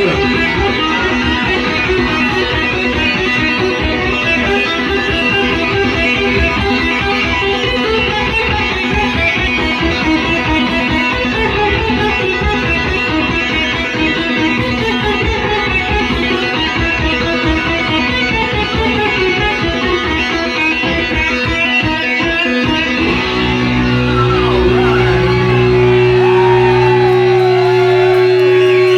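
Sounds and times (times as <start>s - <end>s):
overdriven electric guitar: 0.0s - 28.9s.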